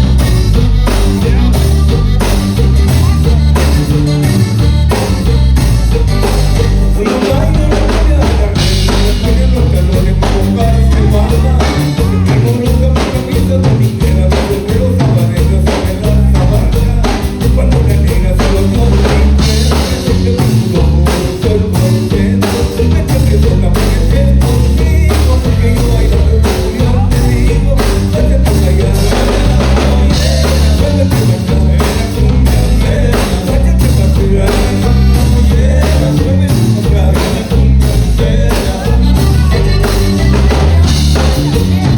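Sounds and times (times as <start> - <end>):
live band playing: 0.0 - 41.9
person singing: 0.0 - 41.9.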